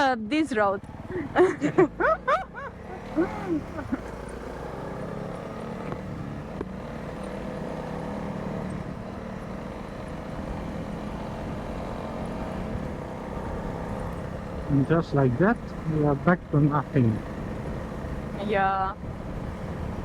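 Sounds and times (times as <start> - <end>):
motorcycle engine cruising: 0.0 - 20.0
road and wind noise: 0.0 - 20.0.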